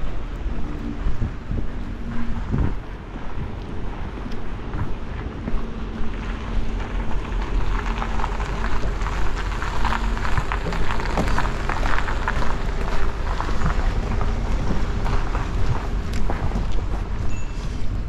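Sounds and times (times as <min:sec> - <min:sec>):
dense crackling noise: 0:00.0 - 0:18.0
wind buffeting microphone: 0:00.0 - 0:18.0.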